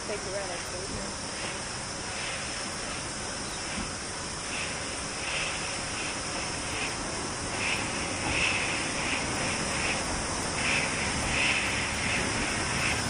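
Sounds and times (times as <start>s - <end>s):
steady high hiss: 0.0s - 13.0s
steam locomotive chuffing: 0.0s - 13.0s.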